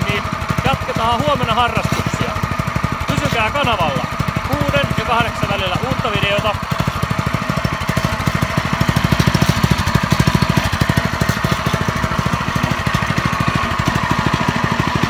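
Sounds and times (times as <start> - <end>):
engine running with even beat: 0.0 - 15.0.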